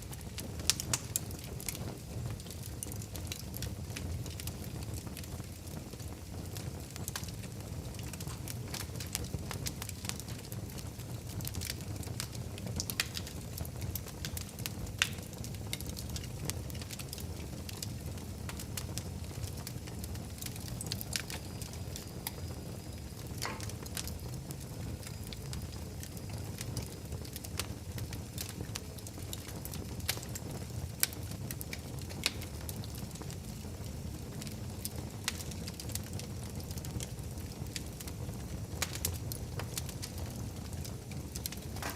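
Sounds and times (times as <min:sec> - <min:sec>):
fire crackling and popping: 0:00.0 - 0:41.9
fire flames rumbling: 0:00.0 - 0:41.9.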